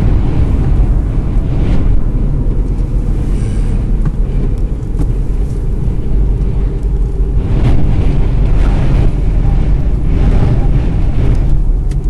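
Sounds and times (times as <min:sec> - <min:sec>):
car cabin rumble at highway speed: 0:00.0 - 0:12.0.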